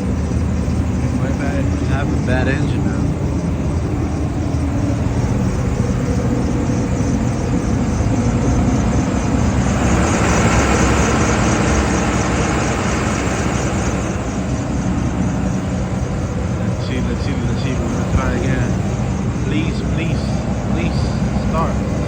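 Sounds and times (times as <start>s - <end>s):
diesel engine cranking: 0.0s - 22.0s.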